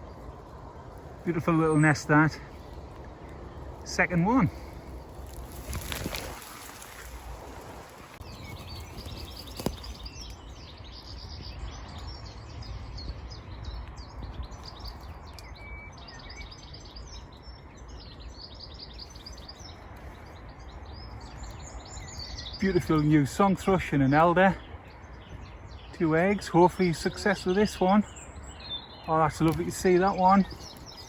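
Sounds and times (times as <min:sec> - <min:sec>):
low wind rumble: 0:00.0 - 0:31.0
songbirds chirping and trilling: 0:00.0 - 0:31.0.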